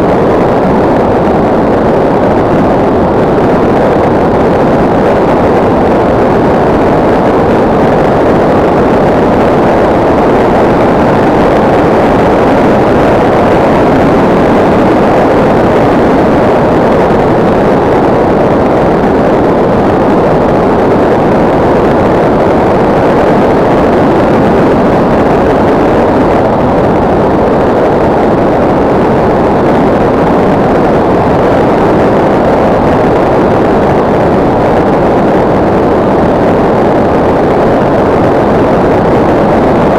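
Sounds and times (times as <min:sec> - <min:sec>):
airflow rushing over microphone: 0:00.0 - 0:39.9.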